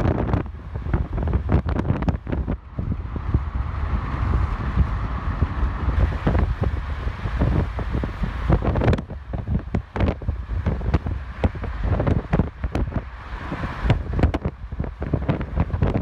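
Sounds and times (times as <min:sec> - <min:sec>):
car driving rumble: 0:00.0 - 0:16.0
wind buffeting microphone: 0:00.0 - 0:16.0.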